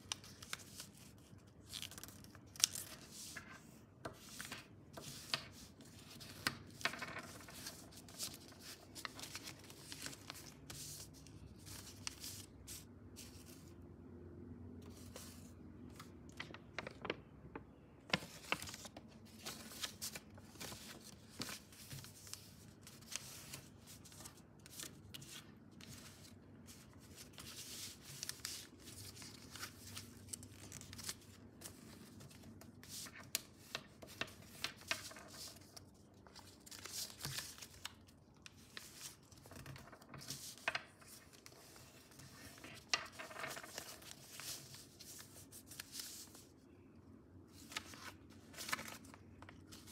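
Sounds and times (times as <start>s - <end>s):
paper folding and crinkling: 0.0s - 13.7s, 18.0s - 46.6s, 47.5s - 49.9s.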